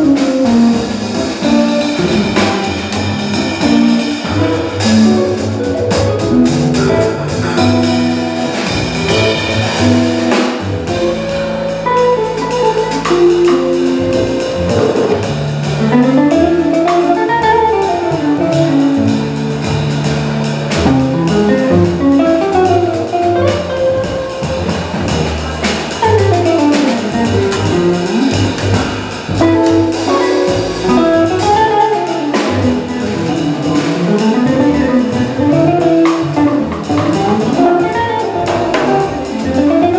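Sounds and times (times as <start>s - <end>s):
drum kit: 0.0s - 39.9s
upright double bass: 0.0s - 39.9s.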